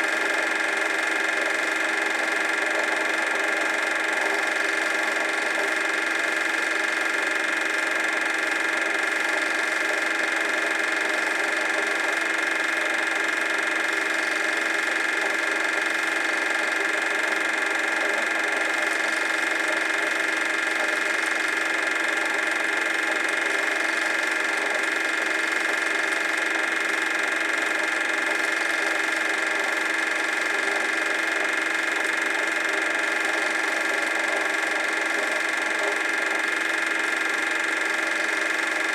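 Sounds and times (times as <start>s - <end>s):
film projector whirring and rattling: 0.0s - 38.9s.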